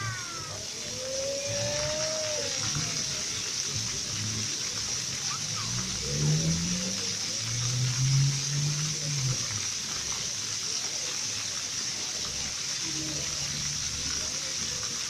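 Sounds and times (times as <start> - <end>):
fountain water jets splashing: 0.0 - 15.0.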